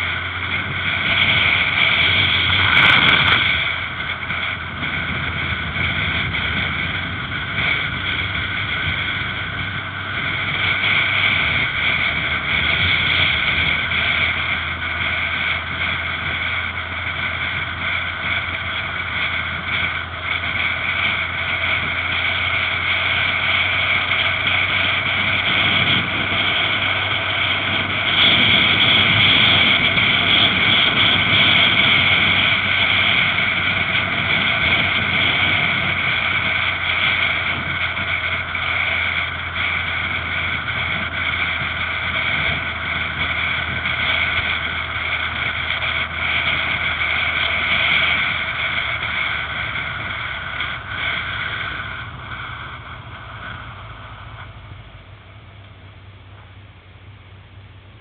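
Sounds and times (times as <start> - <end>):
wind rushing: 0.0 - 54.3
motorcycle engine running: 0.0 - 58.0.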